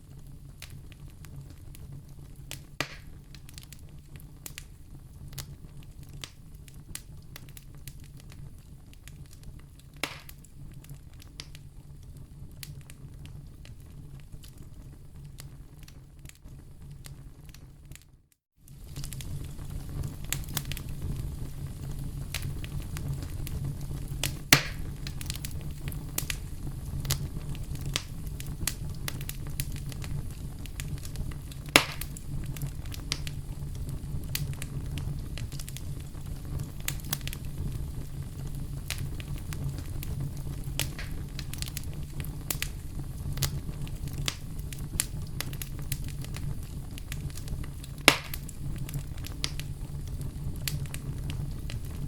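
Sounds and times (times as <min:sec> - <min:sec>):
campfire crackling: 0:00.1 - 0:18.0, 0:18.6 - 0:52.0
campfire pops: 0:00.6 - 0:18.0, 0:18.7 - 0:52.0.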